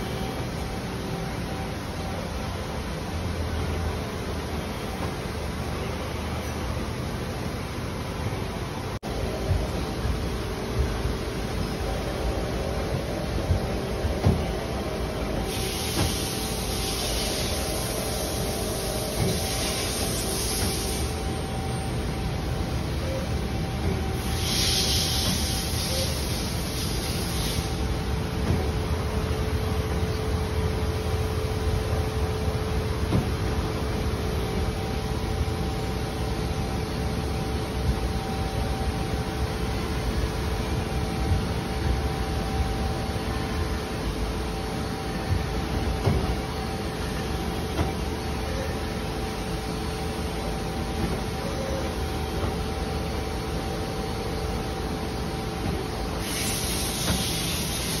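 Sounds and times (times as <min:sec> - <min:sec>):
lathe humming and rumbling: 0:00.0 - 0:58.0.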